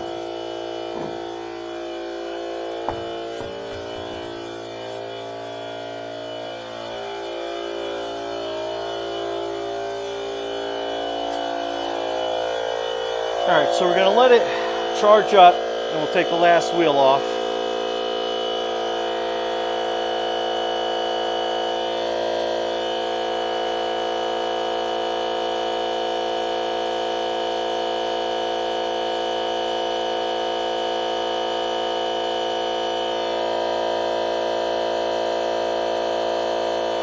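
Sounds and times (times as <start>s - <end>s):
air compressor running: 0.0s - 37.0s.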